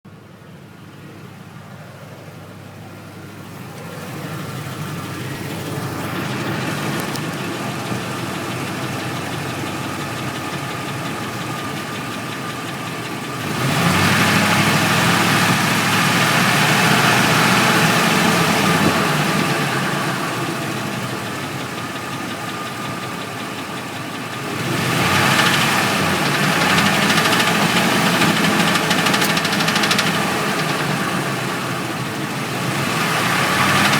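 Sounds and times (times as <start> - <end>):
engine running with knocking: 0.1 - 33.9.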